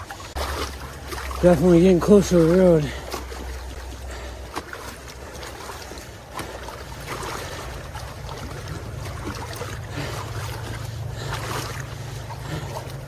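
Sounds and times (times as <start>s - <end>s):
boots sloshing through marsh water: 0.0s - 13.0s
low steady drone: 0.0s - 13.0s.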